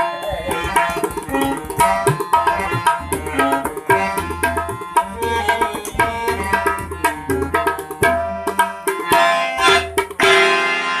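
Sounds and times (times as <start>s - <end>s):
tabla strokes: 0.0s - 10.7s
pitched melody line: 0.0s - 11.0s.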